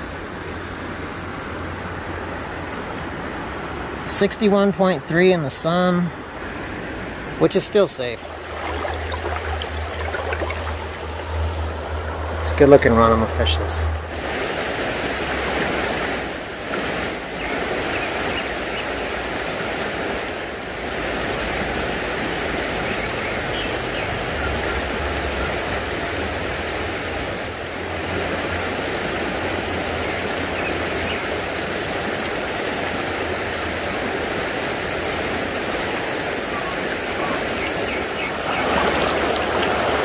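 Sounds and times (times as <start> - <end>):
creek running over rocks: 0.0 - 40.0.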